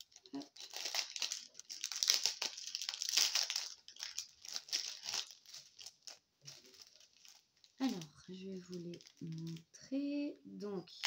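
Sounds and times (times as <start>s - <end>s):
plastic bags crinkling: 0.0s - 9.9s.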